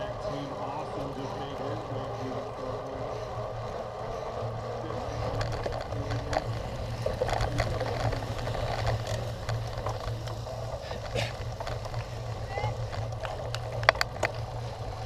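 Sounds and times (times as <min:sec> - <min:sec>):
bicycle rattling and clicking: 0:00.0 - 0:15.0
wind and tyres rumbling: 0:00.0 - 0:15.0.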